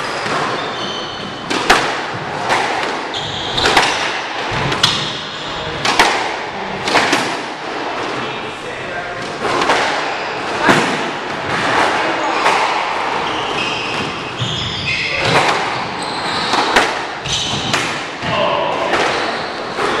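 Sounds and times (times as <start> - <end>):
sneakers squeaking on hardwood: 0.0 - 5.8, 9.7 - 20.0
squash ball hits echoing: 0.0 - 8.2, 9.2 - 20.0.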